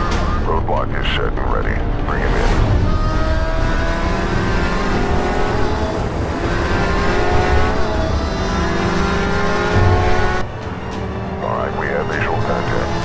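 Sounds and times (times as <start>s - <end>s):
car engine accelerating through gears: 2.3s - 13.0s.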